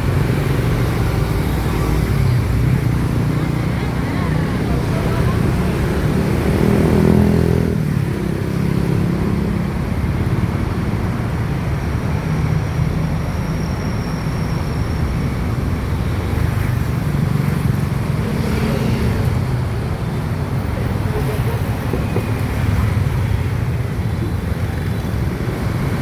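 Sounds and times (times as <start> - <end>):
faint road noise: 0.0 - 26.0.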